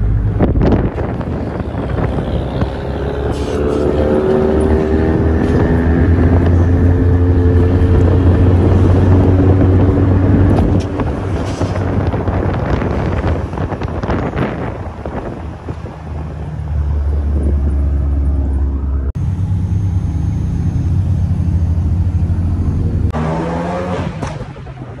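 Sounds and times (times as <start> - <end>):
car exhaust drone: 0.0 - 23.5.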